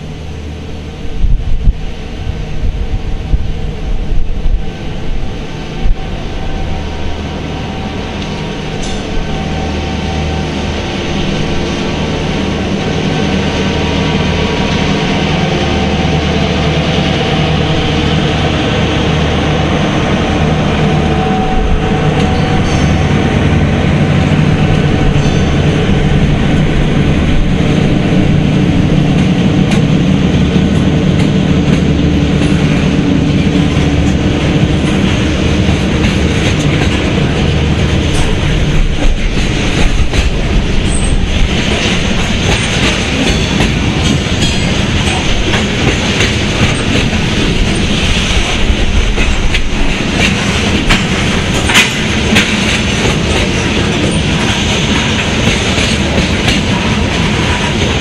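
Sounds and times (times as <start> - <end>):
diesel locomotive engines: 0.0 - 58.0
freight train cars rolling: 0.0 - 58.0.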